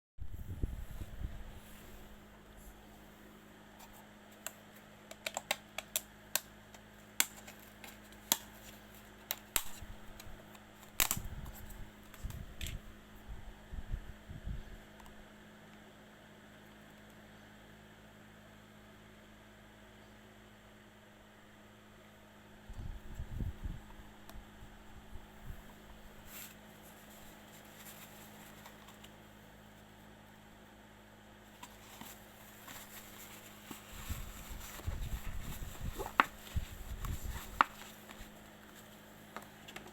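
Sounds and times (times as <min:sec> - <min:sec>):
faint steady hum: 0:00.2 - 0:39.9.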